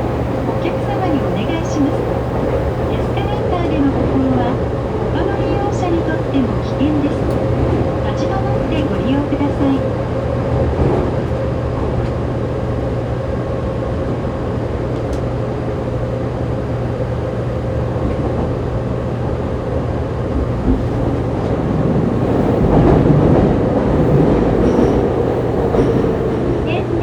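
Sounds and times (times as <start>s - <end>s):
train wheels and motors rumbling: 0.0s - 27.0s.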